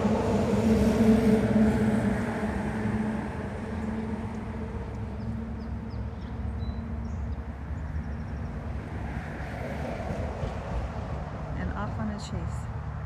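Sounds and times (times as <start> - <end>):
freeway traffic rumble: 0.0 - 13.0.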